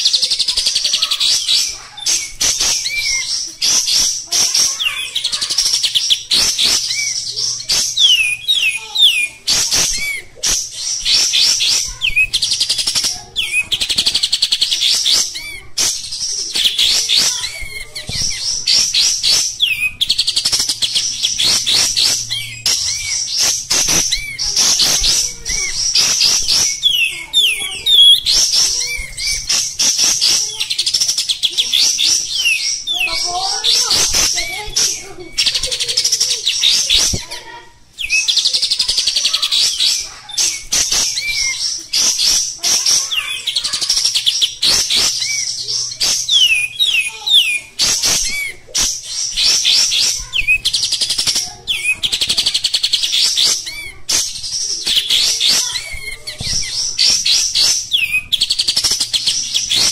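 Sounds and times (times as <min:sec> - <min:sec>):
bird singing chattering song: 0:00.0 - 0:59.9.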